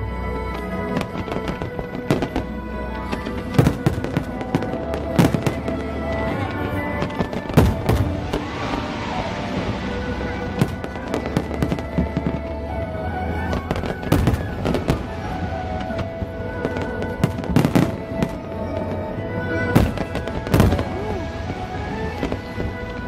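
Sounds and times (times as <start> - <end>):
music: 0.0 - 23.0
fireworks bursting with sharp bangs: 0.5 - 23.0.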